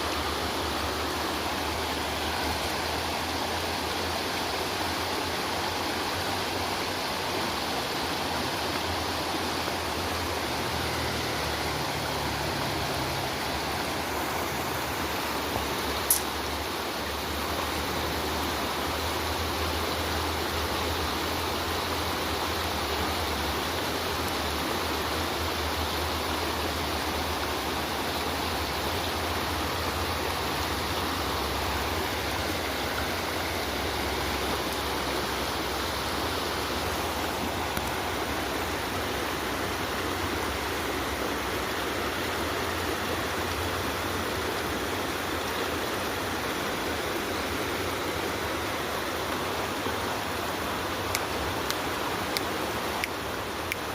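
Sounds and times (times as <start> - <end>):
running water rushing: 0.0 - 53.9.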